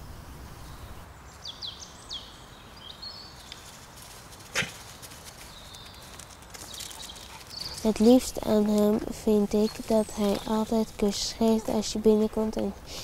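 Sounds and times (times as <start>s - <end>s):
faint outdoor background: 0.0s - 13.0s
small birds chirping: 0.4s - 13.0s.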